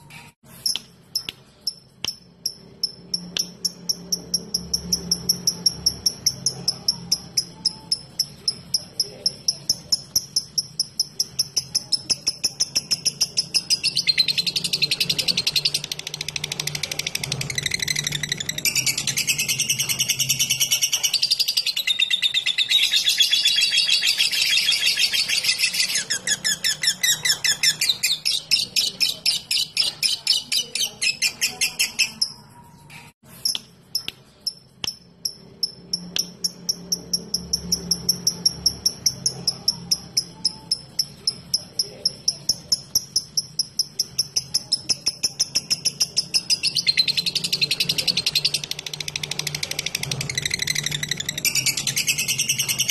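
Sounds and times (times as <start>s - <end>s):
lovebird chattering: 0.1s - 52.9s.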